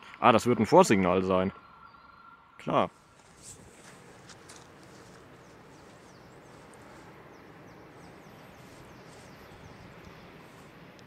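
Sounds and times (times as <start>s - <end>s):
birds chirping: 0.0s - 11.0s
low rumble of electric train: 0.0s - 11.0s.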